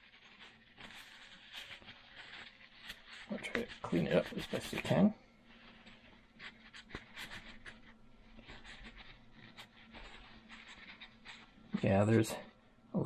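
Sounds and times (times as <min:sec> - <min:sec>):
paper towel scratching and rubbing: 0:00.0 - 0:12.6
faint steady hum: 0:00.0 - 0:13.0.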